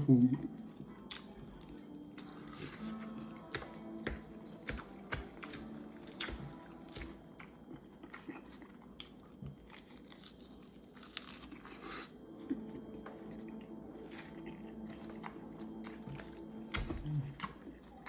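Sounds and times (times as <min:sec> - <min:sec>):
person chewing crunchy salad: 0:01.1 - 0:18.0.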